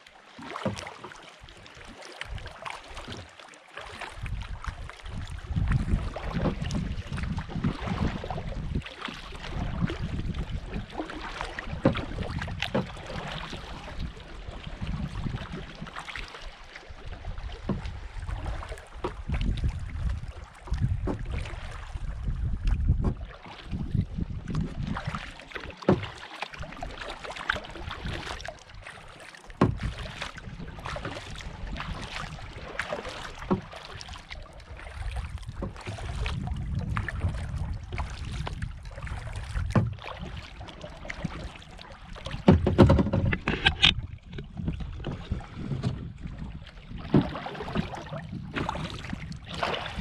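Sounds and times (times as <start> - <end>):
water lapping against kayak: 0.0 - 50.0.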